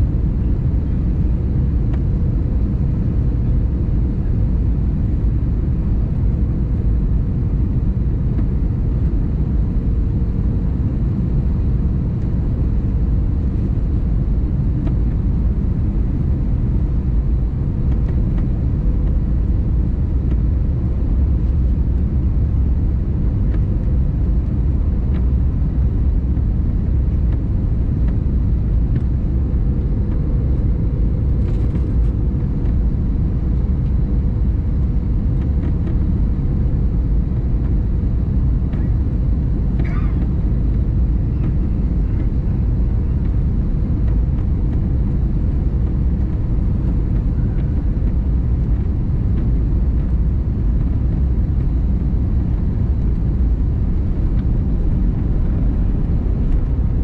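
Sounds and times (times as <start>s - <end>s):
airliner cabin rumble: 0.0s - 57.0s
faint steady hum: 0.0s - 57.0s.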